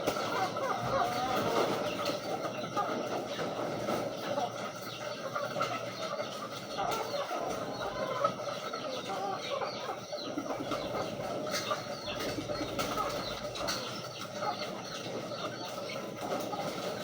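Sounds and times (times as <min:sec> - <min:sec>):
pigeons calling: 0:00.0 - 0:17.0.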